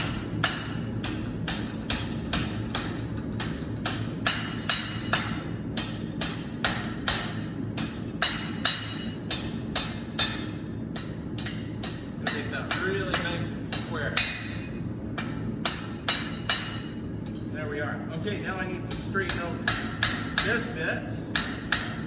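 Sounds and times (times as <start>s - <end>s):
hammer striking steel on anvil: 0.0s - 17.5s, 18.9s - 20.7s, 21.3s - 22.0s.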